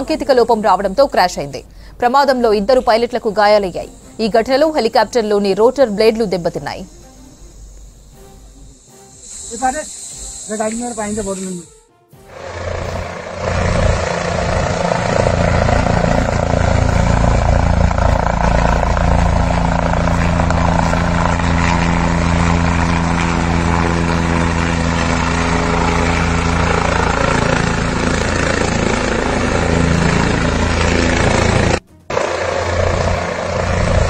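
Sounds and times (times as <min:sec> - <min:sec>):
helicopter rotor and engine drone: 0:00.0 - 0:07.8, 0:12.2 - 0:34.0.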